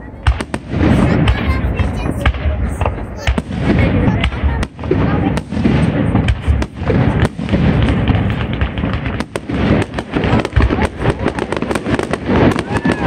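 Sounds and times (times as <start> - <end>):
fireworks bangs and pops: 0.0 - 13.0
fireworks crackling: 0.0 - 13.0.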